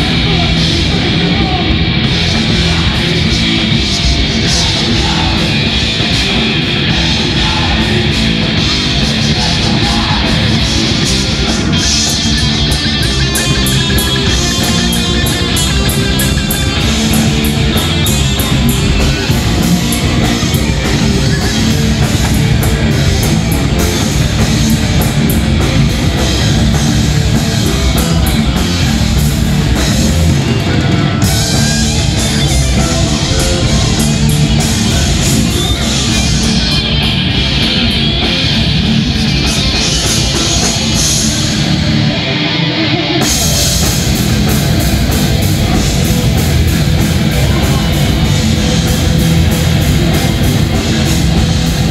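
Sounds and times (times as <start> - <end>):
thrash metal band playing live: 0.0 - 51.9.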